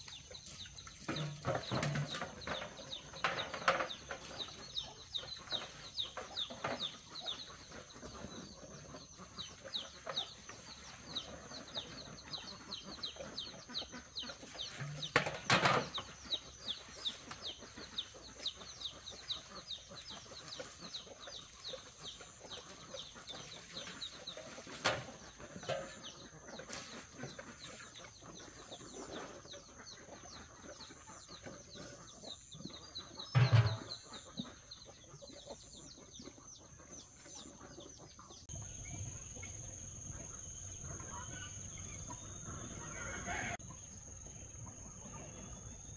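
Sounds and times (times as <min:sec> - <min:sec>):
chicken clucking: 0:00.0 - 0:45.9
chicks peeping: 0:00.0 - 0:45.9.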